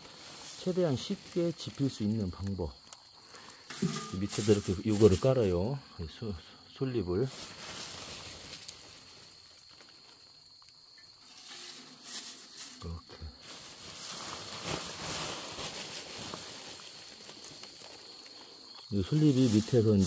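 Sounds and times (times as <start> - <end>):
dry pine needles rustling: 0.0 - 5.6, 7.1 - 20.0.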